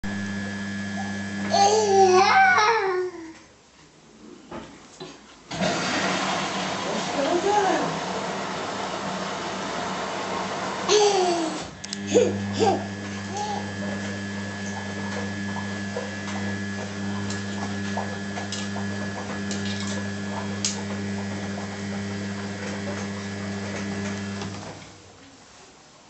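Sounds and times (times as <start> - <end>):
washing machine running: 0.0 - 2.8, 5.5 - 25.2.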